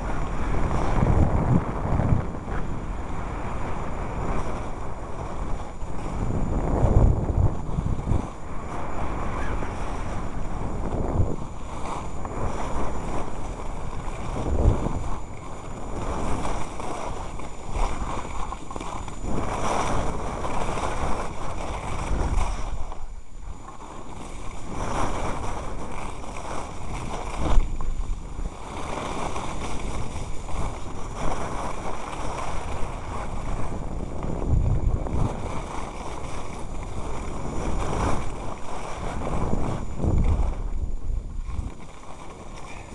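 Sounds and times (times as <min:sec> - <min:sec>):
skis sliding over snow: 0:00.0 - 0:42.9
wind rushing over microphone: 0:00.0 - 0:42.9.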